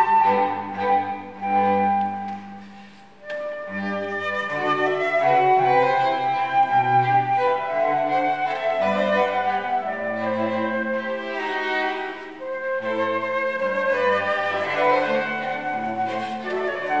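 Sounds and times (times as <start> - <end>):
flute: 0.0 - 17.0
strings playing: 0.0 - 17.0.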